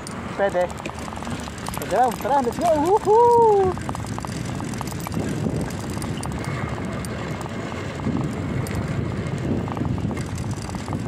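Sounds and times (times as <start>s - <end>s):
bicycle tyre rumble on concrete: 0.0s - 11.0s
wind buffeting microphone: 0.0s - 11.0s.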